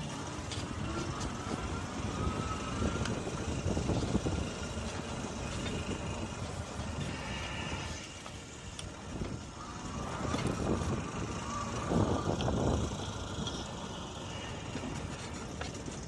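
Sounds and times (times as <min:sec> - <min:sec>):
faint whine: 0:00.0 - 0:16.0
road and tyre rumble: 0:00.0 - 0:16.0
wind rushing over microphone: 0:00.0 - 0:16.0.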